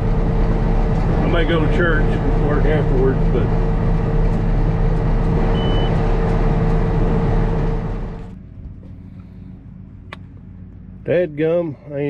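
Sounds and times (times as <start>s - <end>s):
tractor engine whining: 0.0s - 12.0s.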